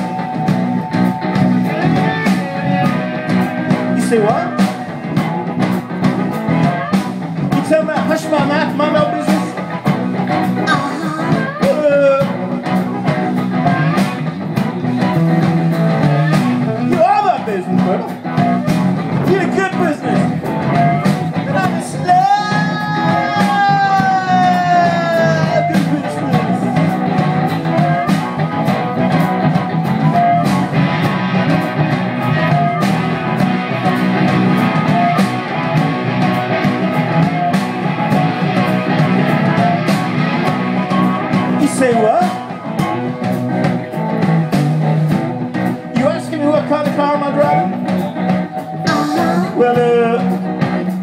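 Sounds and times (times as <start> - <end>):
drum kit beat: 0.0 - 51.0
electric guitars: 0.0 - 51.0.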